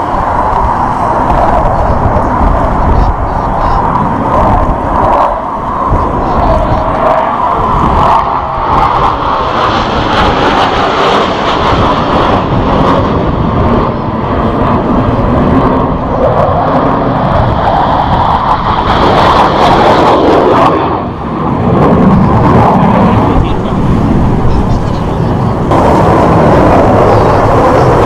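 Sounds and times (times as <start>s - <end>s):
jet engines flying over: 0.0s - 28.0s.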